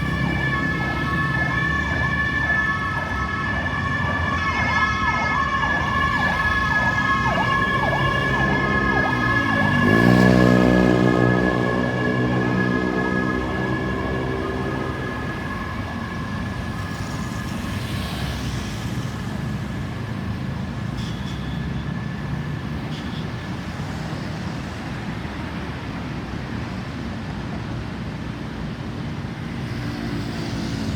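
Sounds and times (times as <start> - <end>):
road traffic noise: 0.0 - 30.9.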